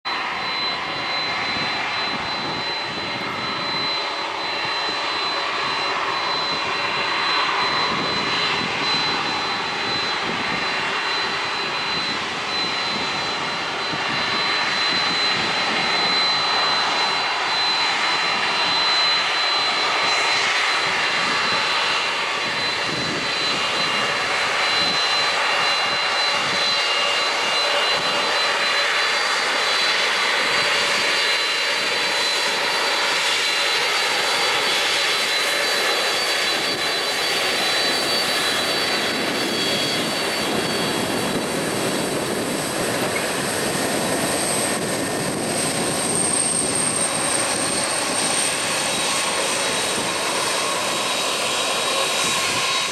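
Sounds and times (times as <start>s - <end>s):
jet engines running: 0.1s - 52.9s.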